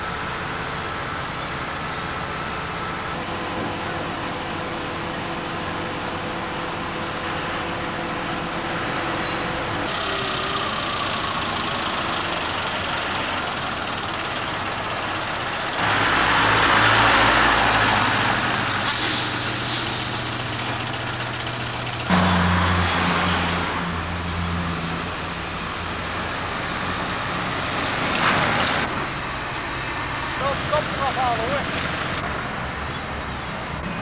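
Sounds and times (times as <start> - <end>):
construction machinery engine drone: 0.0 - 34.0.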